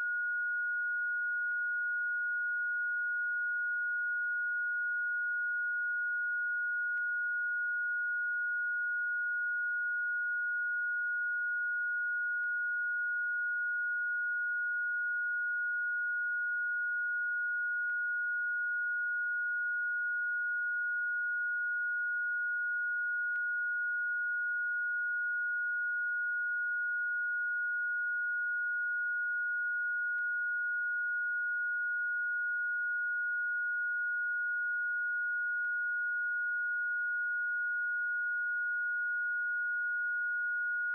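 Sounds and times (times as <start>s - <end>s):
high-pitched sine tone: 0.0s - 40.9s.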